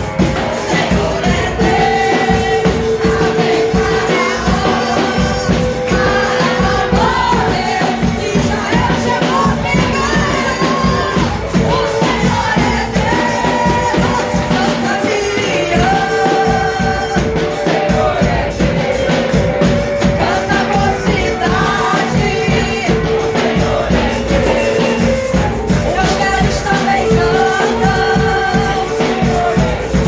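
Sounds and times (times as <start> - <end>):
gospel band with singing: 0.0 - 30.0
steady drum beat: 0.0 - 30.0.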